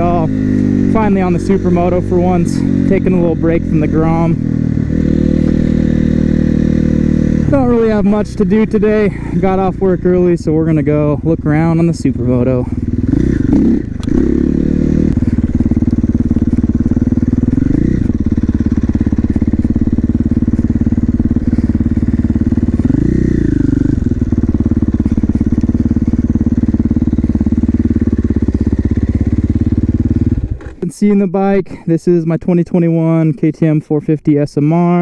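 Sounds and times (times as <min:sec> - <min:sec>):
motorcycle engine idling: 0:00.0 - 0:30.8
motorcycle engine revving: 0:00.0 - 0:30.8.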